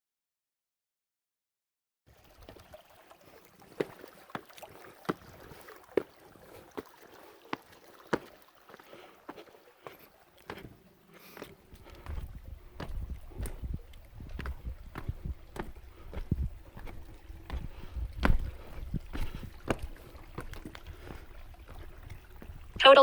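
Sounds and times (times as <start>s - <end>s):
footsteps on a trail: 3.8s - 22.8s.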